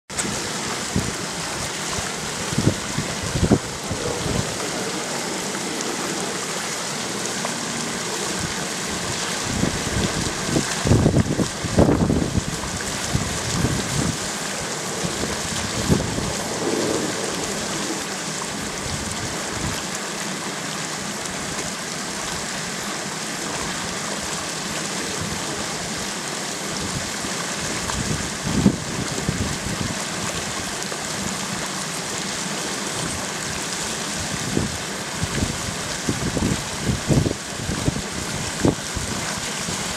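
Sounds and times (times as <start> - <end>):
wind rumble on microphone: 0.1 - 20.5, 23.4 - 39.9
water splashing from waterfall spout: 0.1 - 39.9.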